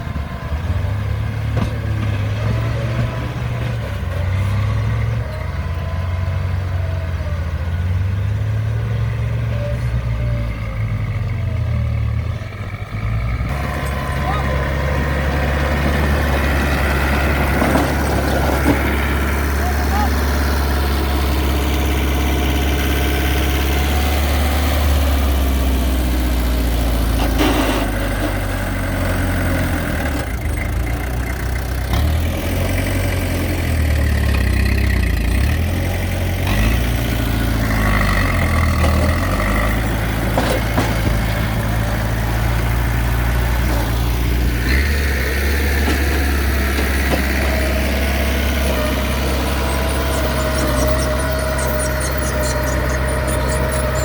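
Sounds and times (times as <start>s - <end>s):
excavator engine rumbling: 0.0s - 54.0s.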